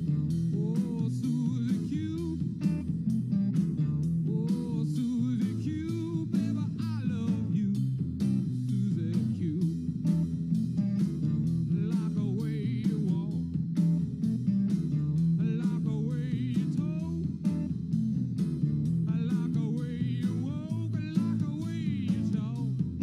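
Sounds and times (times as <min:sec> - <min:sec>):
rock music with guitar and singing: 0:00.0 - 0:23.0.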